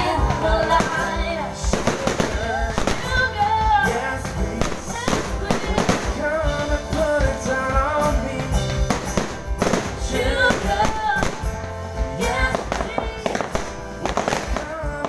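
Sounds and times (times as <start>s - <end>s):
fireworks bangs and crackles: 0.0s - 15.0s
music with sung melody and beat: 0.0s - 15.0s.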